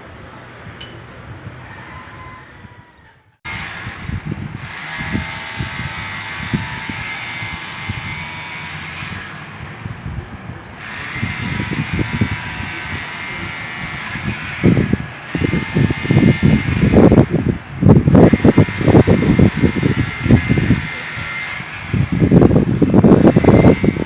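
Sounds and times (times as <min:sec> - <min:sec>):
demolition hammer on concrete: 0:03.5 - 0:10.0, 0:10.8 - 0:24.0
motor whine: 0:03.5 - 0:24.0.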